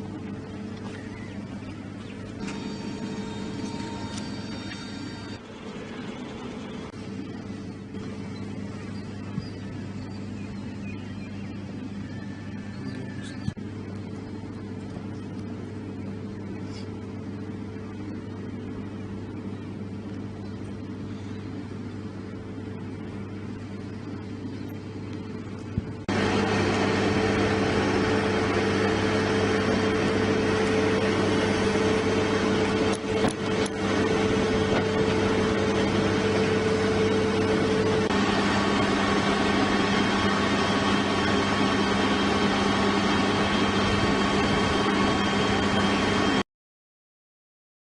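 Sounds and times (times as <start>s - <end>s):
loud noisy engine: 0.0s - 13.7s, 21.0s - 46.4s
engine hum with droning tones: 0.0s - 46.4s.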